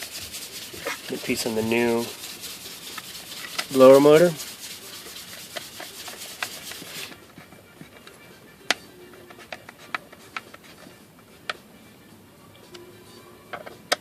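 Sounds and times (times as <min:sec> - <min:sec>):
plastic rubbing and scraping: 0:00.0 - 0:11.6.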